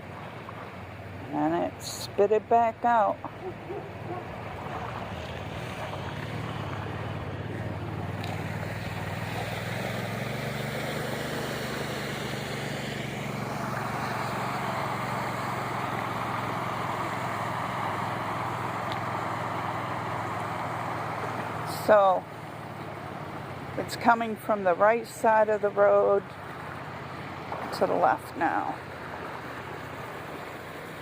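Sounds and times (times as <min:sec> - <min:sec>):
floodwater rushing: 0:00.0 - 0:31.0
low engine hum: 0:00.0 - 0:31.0.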